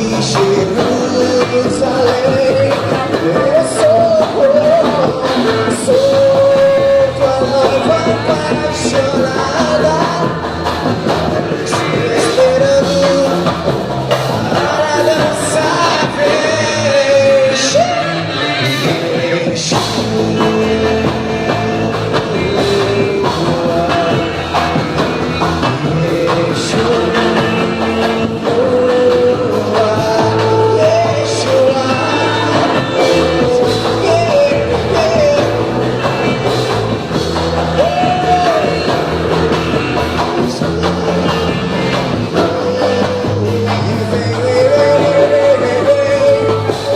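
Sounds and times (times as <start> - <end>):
drum kit beat: 0.0 - 46.9
guitars: 0.0 - 46.9
live rock band playing: 0.0 - 46.9
person singing: 0.0 - 46.9.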